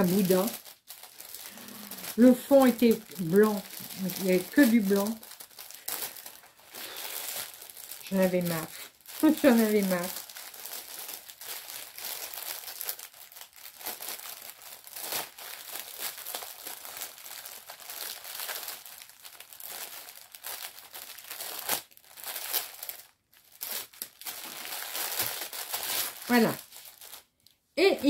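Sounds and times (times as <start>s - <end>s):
plastic packaging crinkling: 0.0s - 27.6s.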